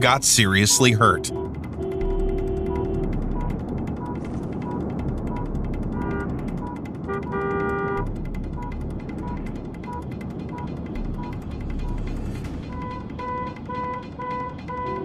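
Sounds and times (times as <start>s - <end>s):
traffic rumble: 0.0s - 15.0s
car horns blasting: 0.7s - 12.0s, 12.7s - 15.0s.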